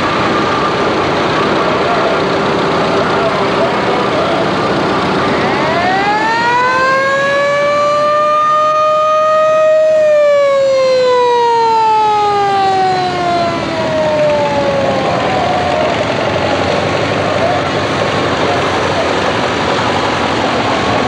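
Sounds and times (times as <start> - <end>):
fire truck siren wailing: 0.0 - 21.0.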